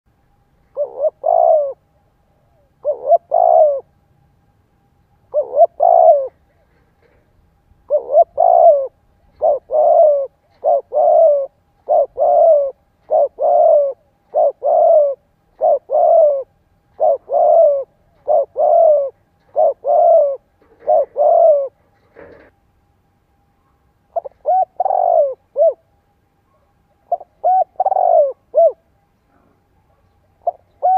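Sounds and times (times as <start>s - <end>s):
dove cooing: 0.6s - 4.0s, 5.3s - 22.5s, 23.6s - 30.9s.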